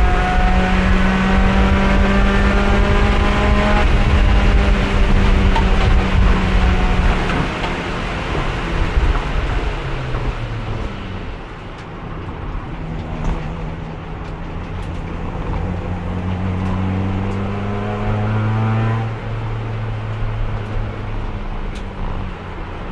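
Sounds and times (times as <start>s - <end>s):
race car engine accelerating: 0.0s - 11.7s, 12.3s - 22.9s
road and wind noise: 0.0s - 22.9s.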